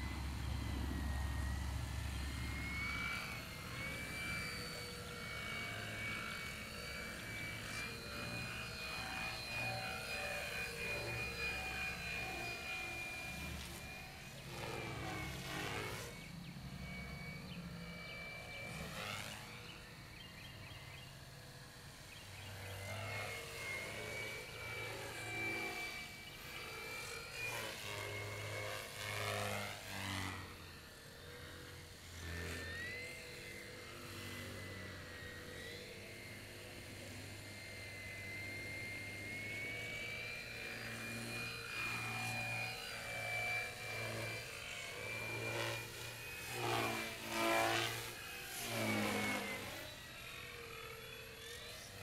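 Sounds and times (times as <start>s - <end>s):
model airplane motor whining: 0.0s - 52.0s.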